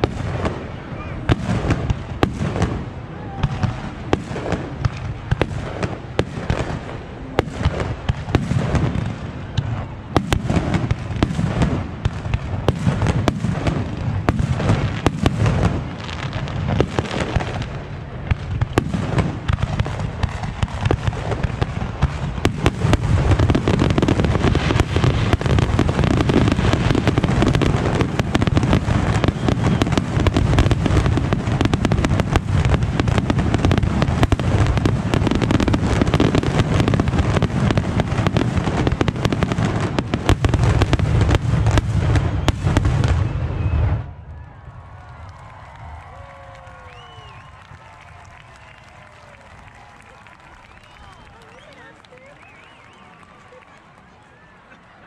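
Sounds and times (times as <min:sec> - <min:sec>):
fireworks bangs and crackles: 0:00.0 - 0:54.1.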